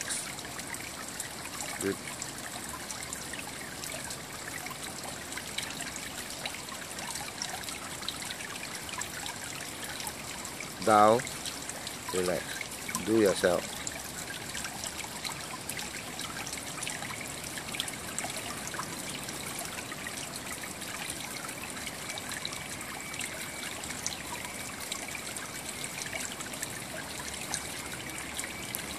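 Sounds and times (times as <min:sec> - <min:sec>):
running water trickling and splashing: 0:00.0 - 0:28.9.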